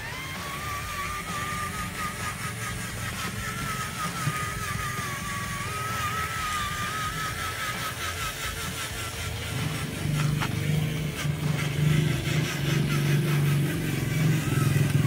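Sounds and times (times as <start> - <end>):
toy truck motor whine: 0.0 - 15.0.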